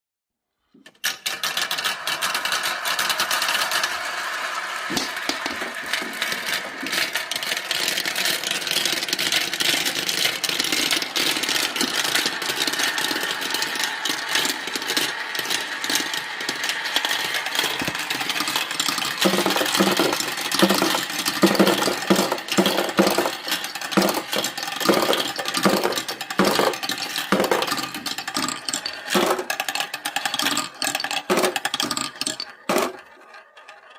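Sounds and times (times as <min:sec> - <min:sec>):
marbles rolling down tracks: 0:00.8 - 0:33.9
marbles clacking together: 0:01.0 - 0:33.9.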